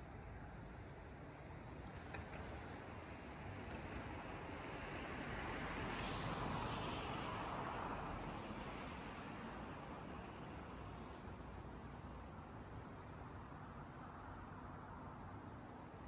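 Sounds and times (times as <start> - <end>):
distant city traffic hum: 0.0 - 16.0.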